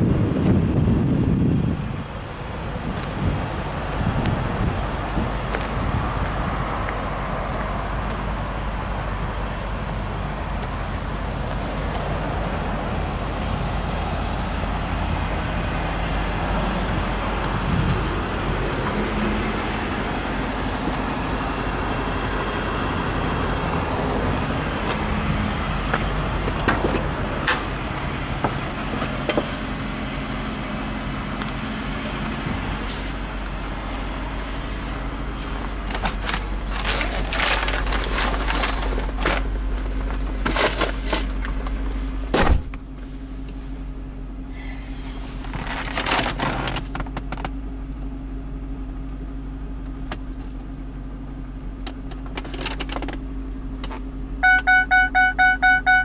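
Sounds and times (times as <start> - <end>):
highway traffic noise: 0.0 - 56.0.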